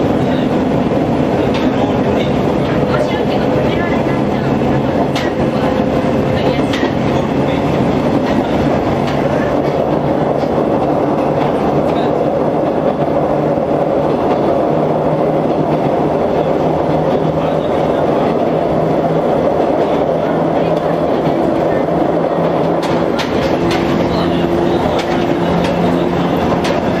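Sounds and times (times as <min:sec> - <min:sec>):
train motors and wheels humming: 0:00.0 - 0:27.0
wheels clicking over rail joints: 0:00.0 - 0:27.0.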